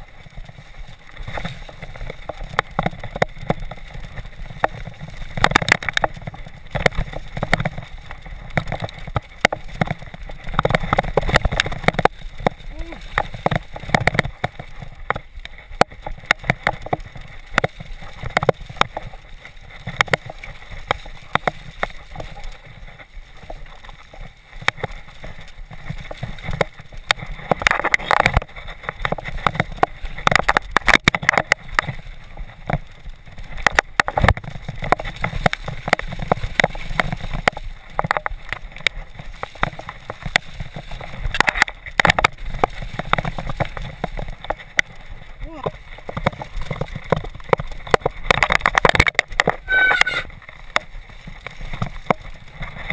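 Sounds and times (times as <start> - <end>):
mountain bike clattering: 0.0 - 52.9
tyres over mud and roots: 0.0 - 52.9.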